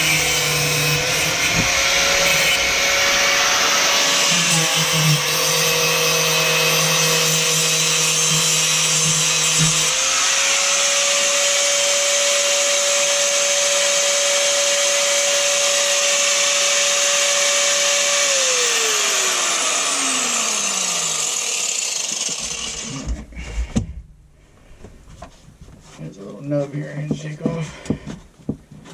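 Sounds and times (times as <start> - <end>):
angle grinder cutting pipe: 0.0 - 23.3.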